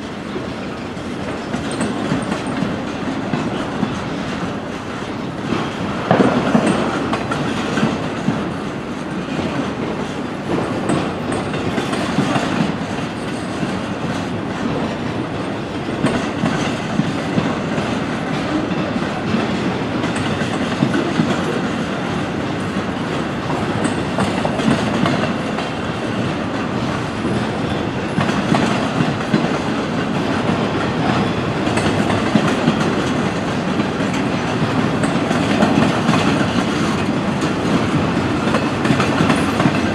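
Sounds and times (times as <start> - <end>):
train wheels clicking over rails: 0.0 - 39.9.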